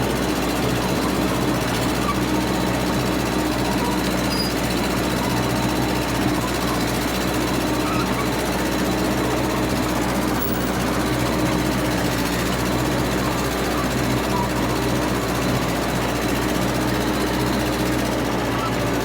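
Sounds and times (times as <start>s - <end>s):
crawler dozer engine running: 0.0s - 19.0s.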